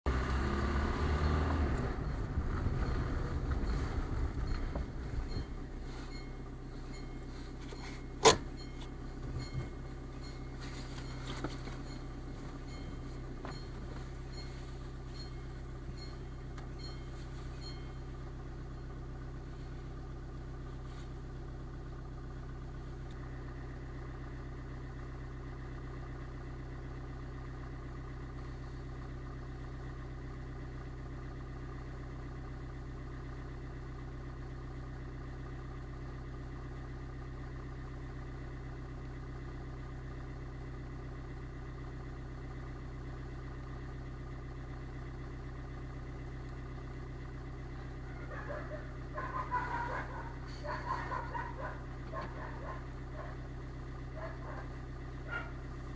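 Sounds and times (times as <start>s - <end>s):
car engine idling: 0.1s - 55.9s.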